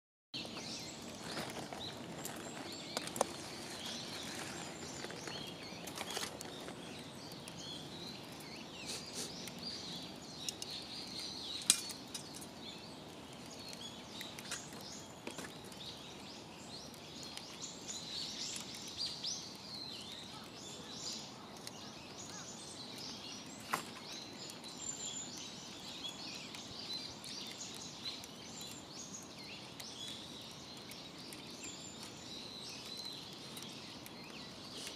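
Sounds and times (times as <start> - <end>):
outdoor background hiss: 0.4 - 34.9
small birds chirping: 0.4 - 34.9.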